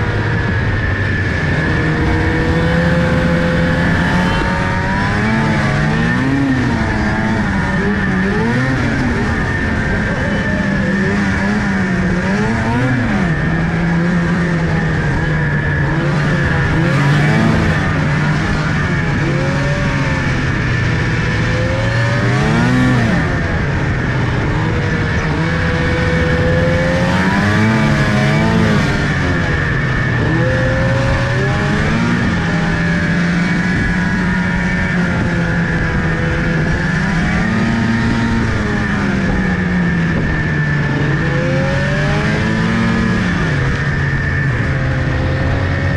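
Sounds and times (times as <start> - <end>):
high whine: 0.0 - 45.9
vehicle engine revving: 0.0 - 45.9.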